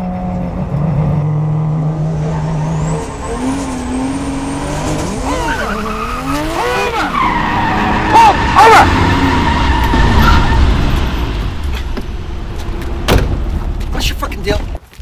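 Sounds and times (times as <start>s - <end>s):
car engine revving: 0.0s - 14.0s
tires squealing: 0.9s - 13.1s.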